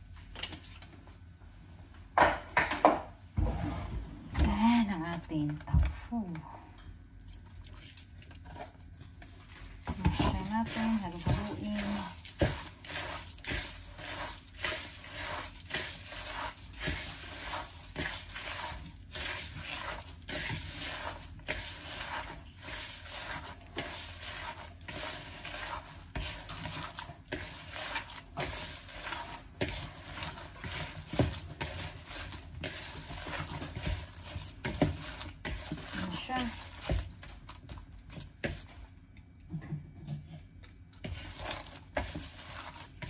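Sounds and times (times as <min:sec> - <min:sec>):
hand squishing food in a bowl: 0:04.4 - 0:43.0.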